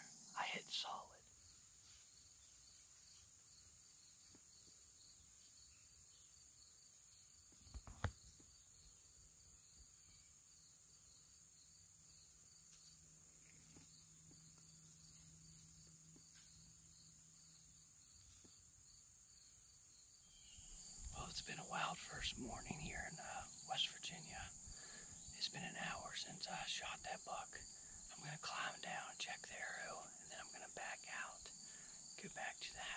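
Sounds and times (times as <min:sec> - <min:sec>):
insects trilling: 0:00.0 - 0:32.9.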